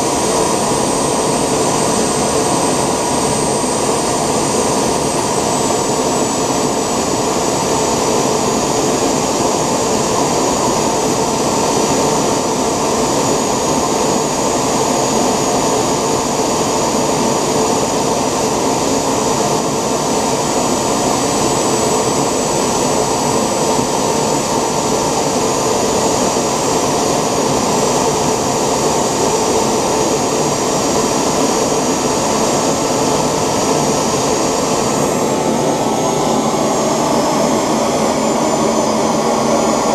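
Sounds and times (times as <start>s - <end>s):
high turbine whine: 0.0s - 39.9s
model jet engine exhaust rush: 0.0s - 39.9s.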